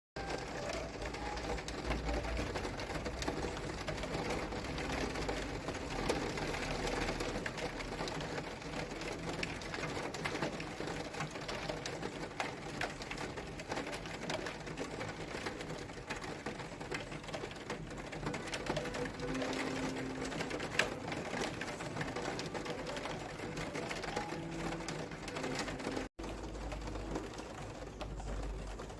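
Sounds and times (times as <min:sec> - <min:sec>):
faint television: 0:00.2 - 0:28.9
steady rain patter: 0:00.2 - 0:28.9.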